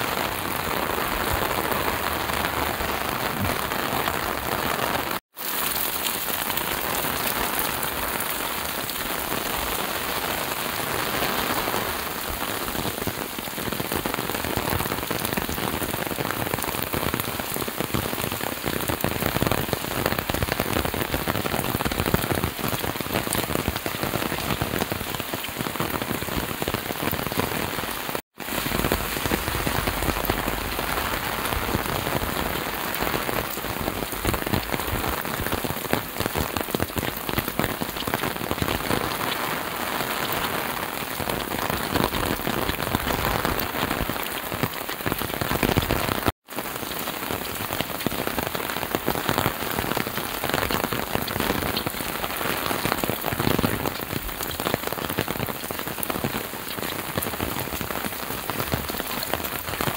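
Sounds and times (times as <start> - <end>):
heavy rain on wet road: 0.0 - 59.9.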